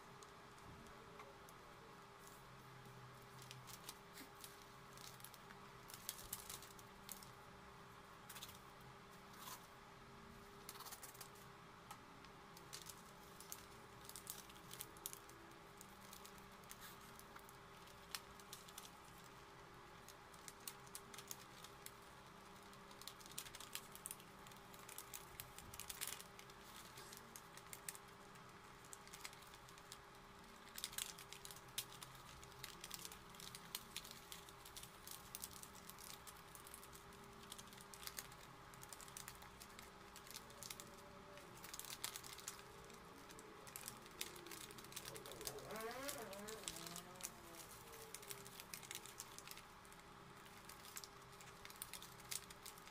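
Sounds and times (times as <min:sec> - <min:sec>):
faint steady hum: 0:00.0 - 0:52.9
paper crackling as folded: 0:03.2 - 0:07.4, 0:10.6 - 0:11.4, 0:12.6 - 0:52.9.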